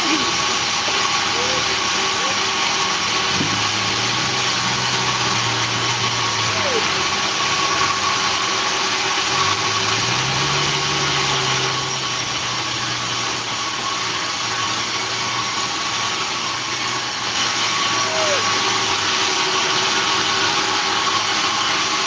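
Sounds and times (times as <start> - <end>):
sawmill engine running: 0.0 - 22.0.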